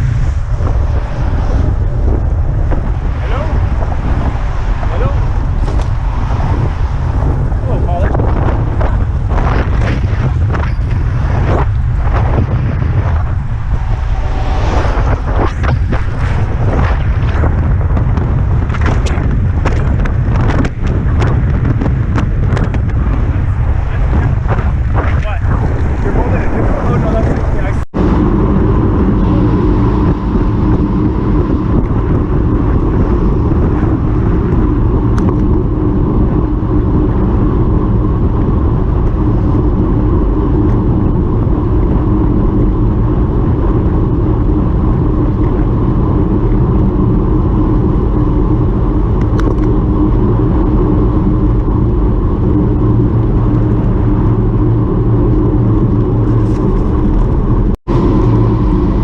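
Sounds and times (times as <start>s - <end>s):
vehicle rumble and hum: 0.0s - 59.0s.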